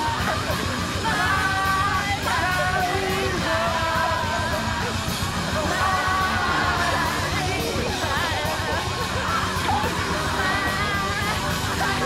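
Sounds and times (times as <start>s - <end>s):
loud music with singing: 0.0s - 12.0s
people yelling: 0.0s - 12.0s.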